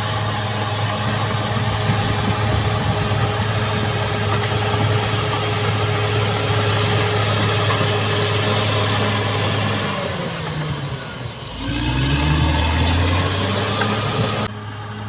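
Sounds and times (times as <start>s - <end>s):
bulldozer diesel engine: 0.0s - 15.0s.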